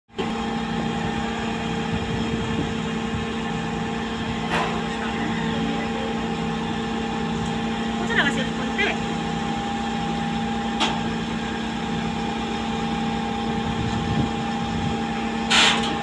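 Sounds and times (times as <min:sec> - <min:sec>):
diesel engine running steadily: 0:00.1 - 0:16.0.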